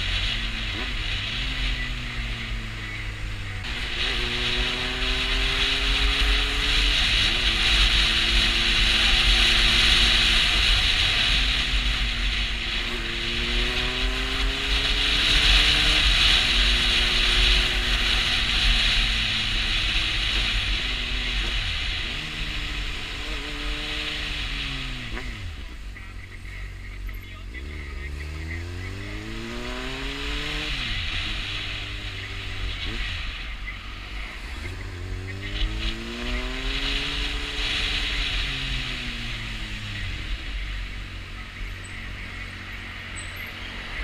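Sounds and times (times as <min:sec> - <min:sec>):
motorcycle engine shifting gears: 0:00.0 - 0:44.0.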